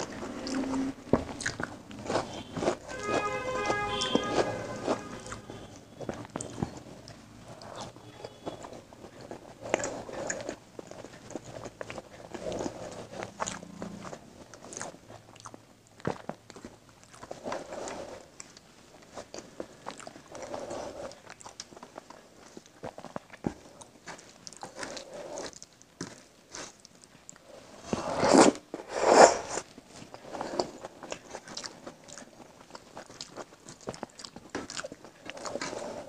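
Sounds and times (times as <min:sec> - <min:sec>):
wet chewing: 0:00.0 - 0:28.6, 0:29.3 - 0:36.0.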